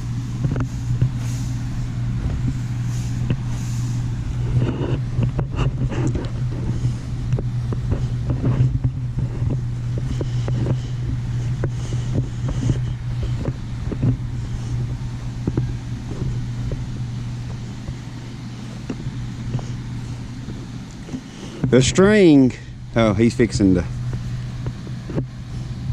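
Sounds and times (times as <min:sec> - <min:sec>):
engine droning: 0:00.0 - 0:25.9.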